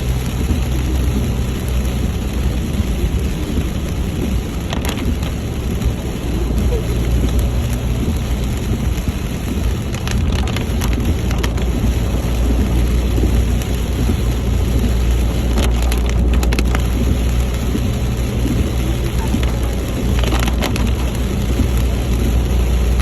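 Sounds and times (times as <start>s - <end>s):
heavy rain on a car: 0.0s - 23.0s
road rumble: 0.0s - 23.0s
sharp crackling ticks: 0.0s - 23.0s.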